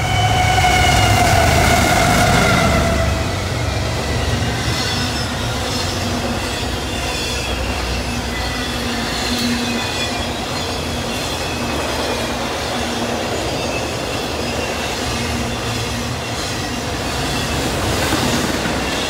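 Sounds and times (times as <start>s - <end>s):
high wheel squeal: 0.0s - 19.0s
steel wheels rumbling on rail: 0.0s - 19.0s.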